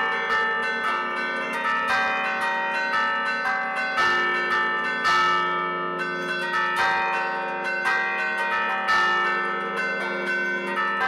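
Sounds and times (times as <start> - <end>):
church bells playing a tune: 0.0 - 11.0.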